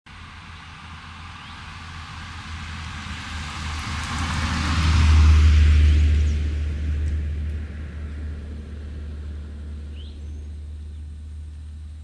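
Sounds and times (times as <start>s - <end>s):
vehicle passing on road: 0.1s - 12.0s.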